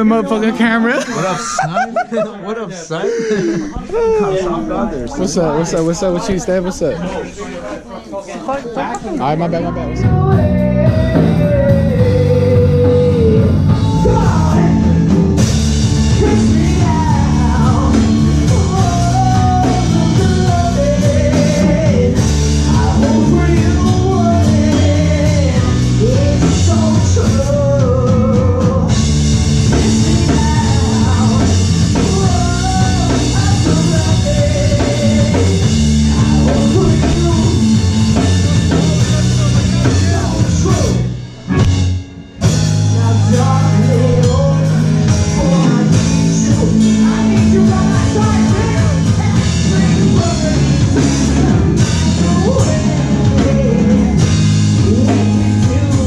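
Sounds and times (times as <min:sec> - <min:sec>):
rock band playing: 0:09.2 - 0:56.0
person singing: 0:09.8 - 0:41.6, 0:42.4 - 0:56.0.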